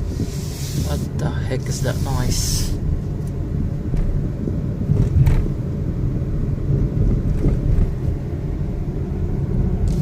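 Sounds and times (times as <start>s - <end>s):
car grinding rumble: 0.0s - 10.0s.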